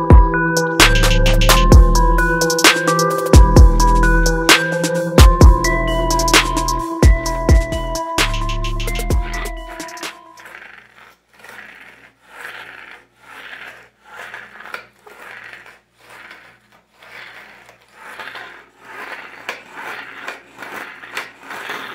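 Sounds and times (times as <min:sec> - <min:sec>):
spinning toy rasping rub: 0:00.8 - 0:21.9.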